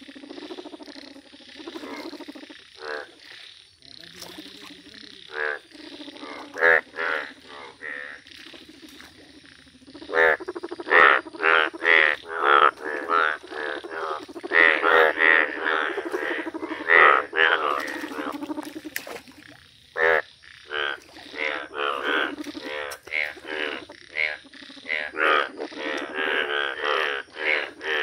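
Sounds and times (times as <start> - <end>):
frogs croaking: 0.0 - 28.0
loud pulsing frog croaks: 0.0 - 28.0.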